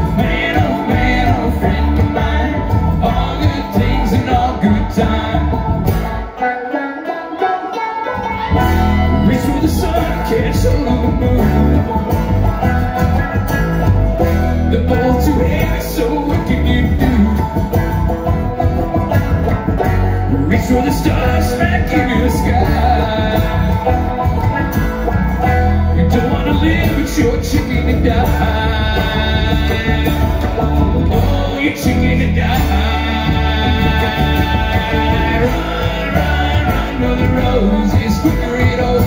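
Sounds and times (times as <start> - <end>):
upright bass: 0.0 - 6.4, 8.2 - 39.0
acoustic guitar: 0.0 - 39.0
banjo: 0.0 - 39.0
mandolin: 0.0 - 39.0.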